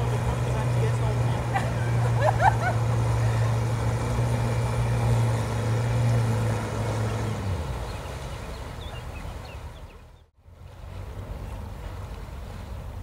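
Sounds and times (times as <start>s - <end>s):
car engine droning: 0.0s - 13.0s
water spray and wake rushing: 0.0s - 13.0s.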